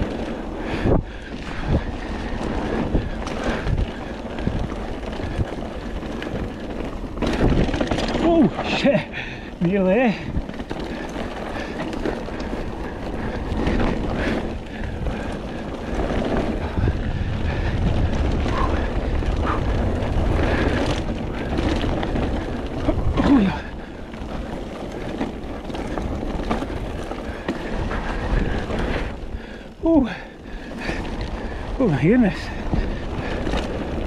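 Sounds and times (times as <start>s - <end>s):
bike knocks and rattles: 0.0s - 34.0s
tyres rumbling on dirt: 0.0s - 34.0s
wind buffeting microphone: 0.0s - 34.0s.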